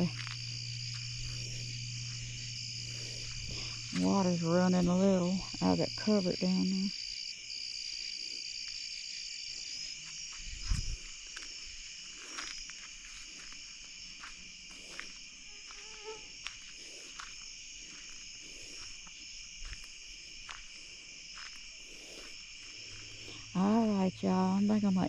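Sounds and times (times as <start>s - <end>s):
crickets and insects trilling: 0.0s - 25.0s.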